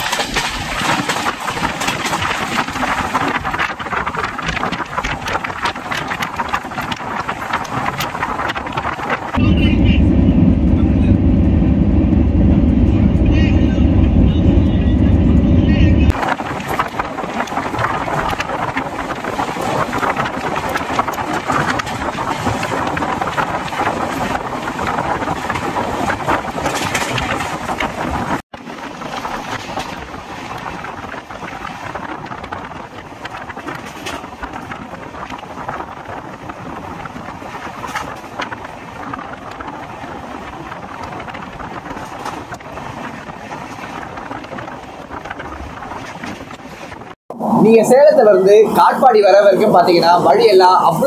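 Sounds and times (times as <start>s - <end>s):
train wheel and wind noise: 0.0s - 51.0s.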